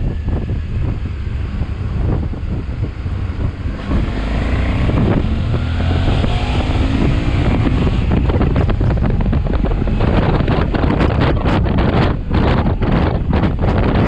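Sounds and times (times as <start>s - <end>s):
motorcycle engine accelerating: 0.0s - 14.0s
wind buffeting on microphone: 0.0s - 14.0s.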